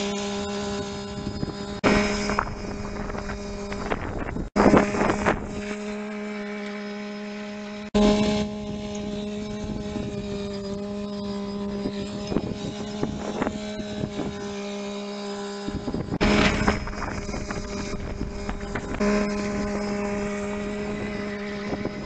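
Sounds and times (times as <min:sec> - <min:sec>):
wind on microphone: 0:00.0 - 0:05.9, 0:08.0 - 0:22.0.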